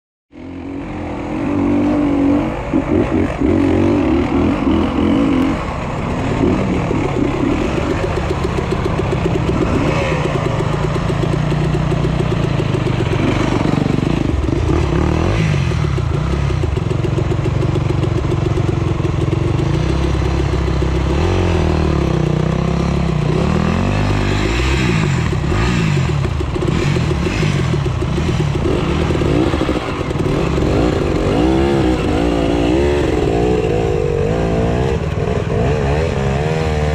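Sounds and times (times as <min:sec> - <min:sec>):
dirt bike engines revving: 0:00.3 - 0:36.9.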